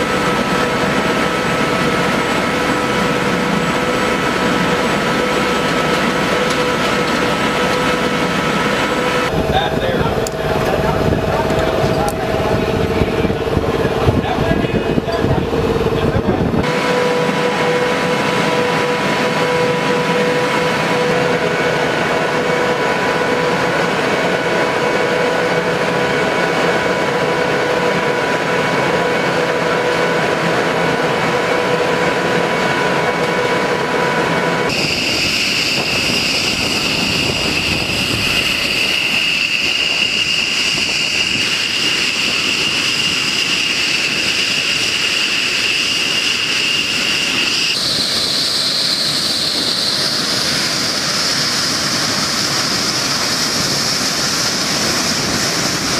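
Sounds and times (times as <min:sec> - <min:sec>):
jet engine whine: 0:00.0 - 0:55.9
noisy rush: 0:00.0 - 0:55.9.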